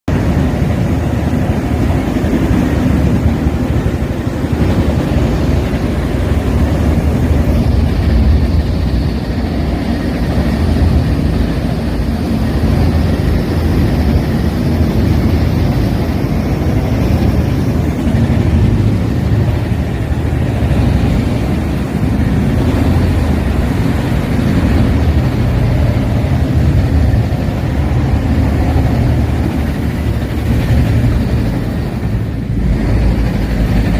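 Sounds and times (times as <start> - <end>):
drill rig rumbling: 0.1 - 33.9.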